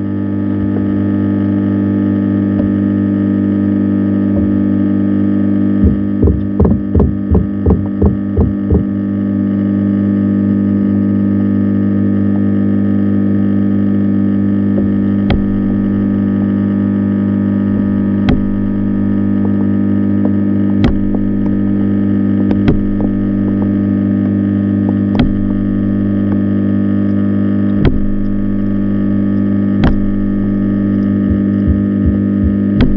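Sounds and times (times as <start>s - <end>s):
low electrical hum: 0.0s - 32.9s.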